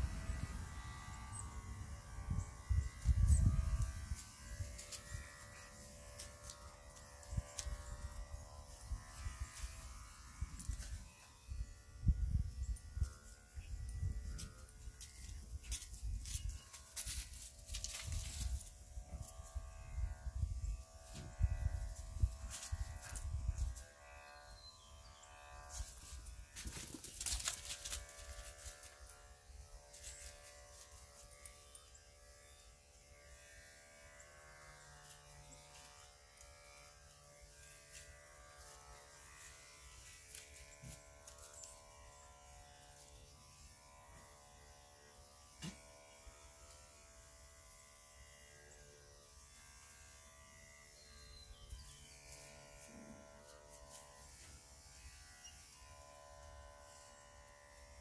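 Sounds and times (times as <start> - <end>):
electric clippers buzzing: 0.0 - 58.0.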